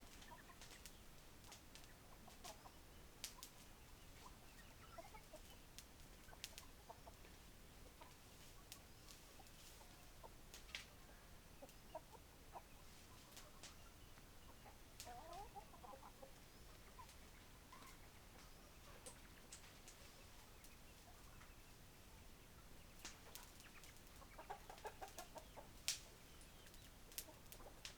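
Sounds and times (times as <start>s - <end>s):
hens clucking quietly: 0.0s - 27.9s.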